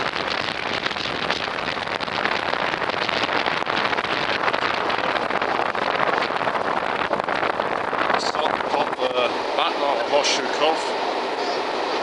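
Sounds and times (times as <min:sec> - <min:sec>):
train running noise: 0:00.0 - 0:12.0
wind buffeting microphone: 0:00.0 - 0:12.0.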